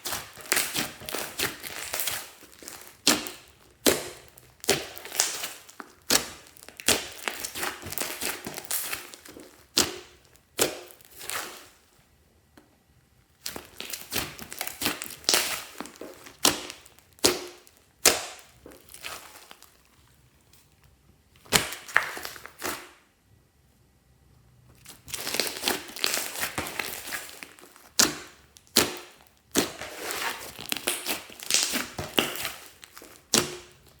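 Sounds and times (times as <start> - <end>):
slime squished by hand: 0.0 - 11.8, 13.4 - 23.0, 24.8 - 34.0.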